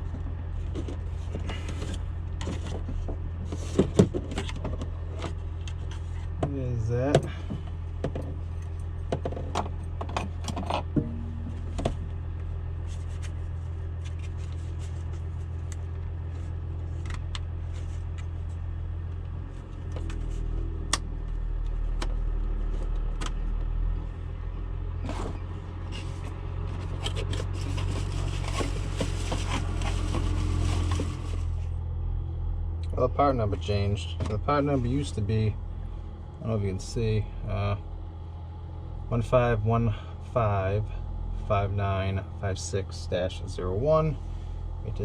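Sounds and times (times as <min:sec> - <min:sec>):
machine low hum: 0:00.0 - 0:45.0.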